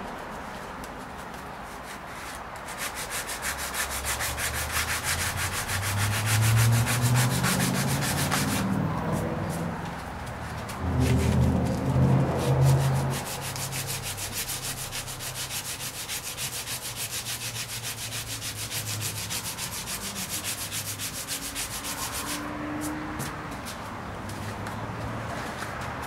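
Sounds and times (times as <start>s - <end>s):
sandpaper rasping on fiberglass: 0.5s - 9.7s, 10.3s - 23.9s.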